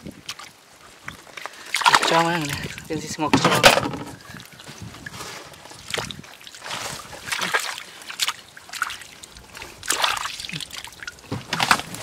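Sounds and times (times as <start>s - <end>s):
hands sloshing through muddy water: 0.0s - 12.0s
water splashes: 0.0s - 12.0s.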